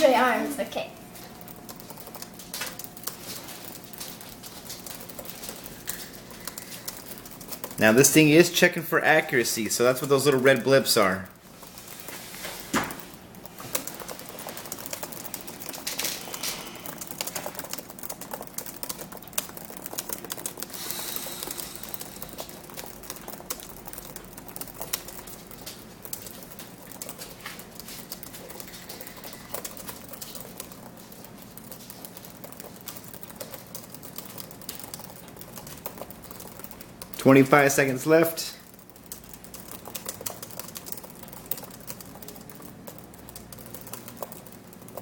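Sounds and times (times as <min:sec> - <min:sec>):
fast typing on keyboard: 0:00.0 - 0:45.0.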